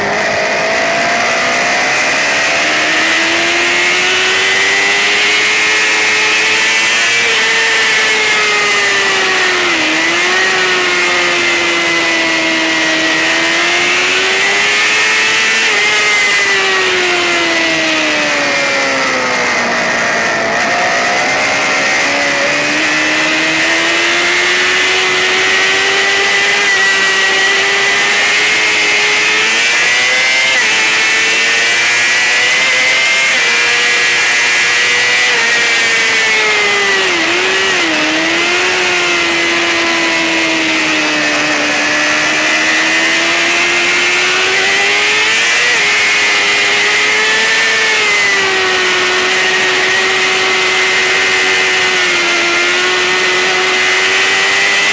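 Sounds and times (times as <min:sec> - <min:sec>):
motorcycle engine revving high: 0:00.0 - 0:54.9.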